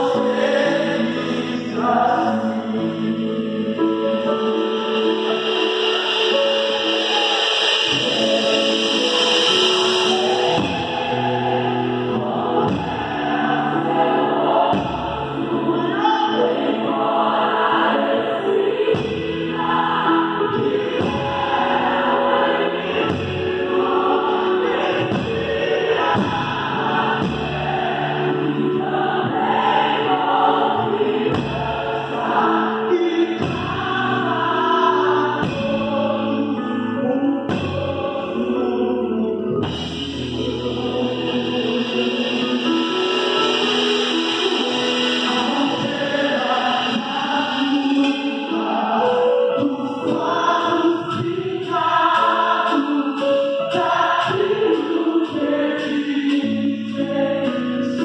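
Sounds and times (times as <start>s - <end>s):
drum kit played with sticks: 0.0s - 36.6s, 37.4s - 38.5s, 39.5s - 58.0s
group of voices singing: 0.0s - 58.0s.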